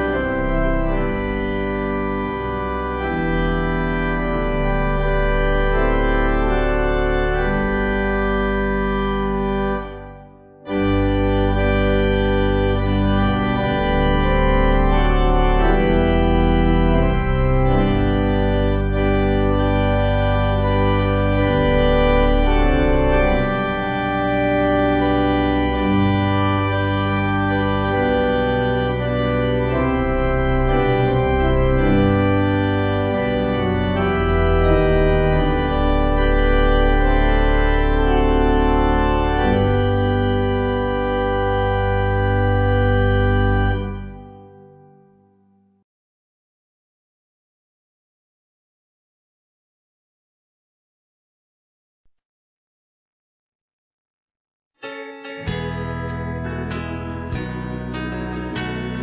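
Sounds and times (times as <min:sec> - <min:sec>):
organ playing sustained chords: 0:00.0 - 0:45.4, 0:55.0 - 0:59.0.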